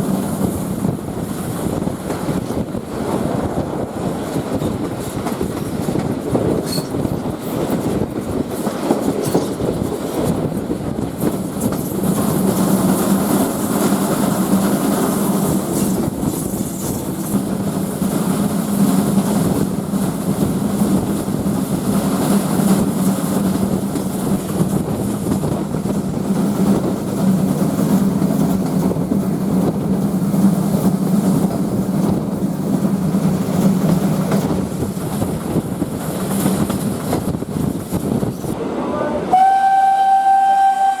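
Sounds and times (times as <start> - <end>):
train rolling rumble: 0.0 - 41.0.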